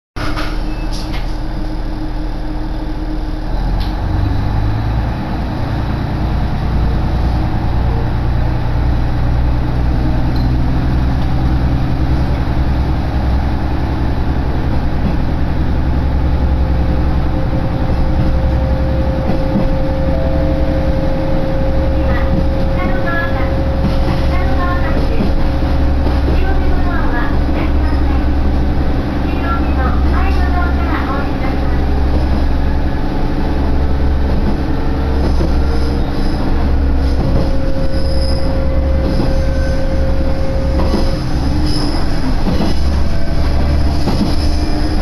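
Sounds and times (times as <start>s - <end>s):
train engine and wheel hum: 0.2s - 45.0s.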